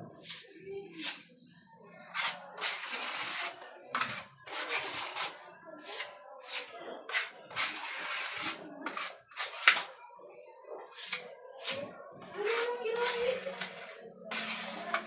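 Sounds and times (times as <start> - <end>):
rough scraping strokes: 0.2 - 1.3, 2.1 - 10.0, 11.0 - 15.0.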